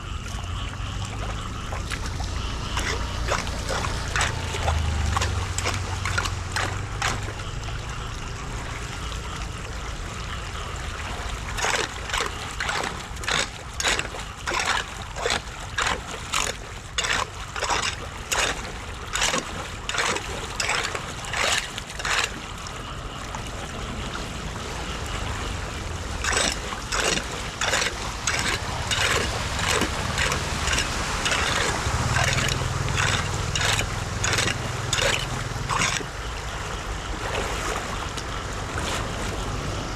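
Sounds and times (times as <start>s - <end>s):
splashing strokes: 0.0s - 23.4s, 24.0s - 39.7s
water trickling and gurgling at drain: 0.0s - 39.9s.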